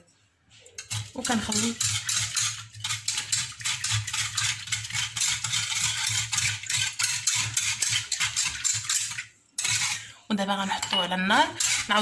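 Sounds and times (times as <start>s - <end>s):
metal utensil stirring in saucepan: 0.5s - 12.0s.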